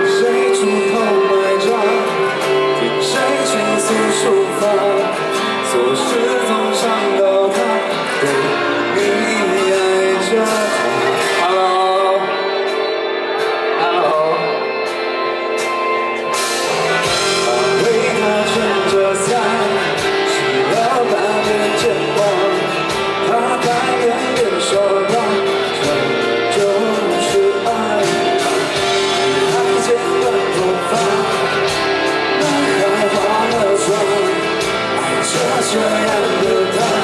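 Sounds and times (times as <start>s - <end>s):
live pop-rock band playing: 0.0s - 37.0s.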